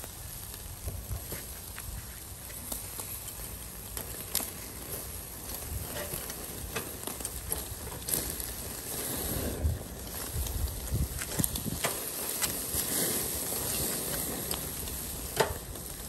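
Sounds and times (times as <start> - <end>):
fat crackling on hot coals: 0.0 - 16.0
meat sizzling on grill: 0.0 - 16.0.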